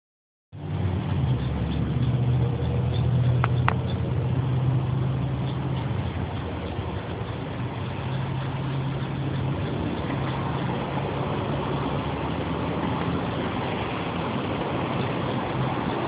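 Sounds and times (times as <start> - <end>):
engine idling: 0.6 - 16.0.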